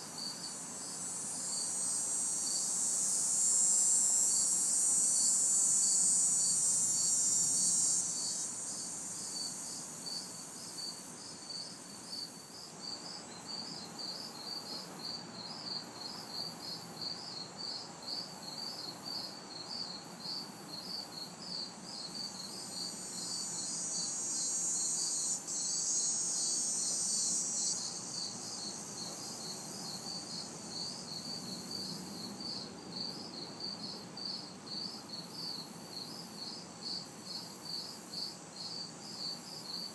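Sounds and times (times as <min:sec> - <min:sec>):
cicadas buzzing: 0:00.0 - 0:39.9
crickets chirping: 0:00.0 - 0:39.9.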